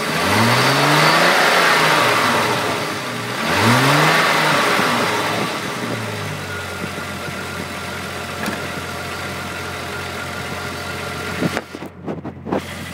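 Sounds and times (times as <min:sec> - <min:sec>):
car engine idling: 0:01.4 - 0:12.9.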